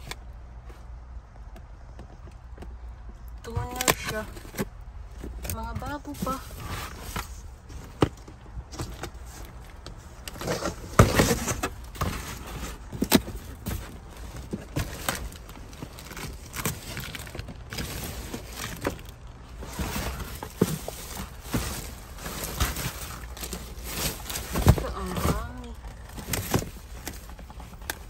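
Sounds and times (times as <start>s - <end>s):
plastic bags and cardboard rustling: 2.0s - 28.0s
knocks of rubbish moved: 3.4s - 28.0s.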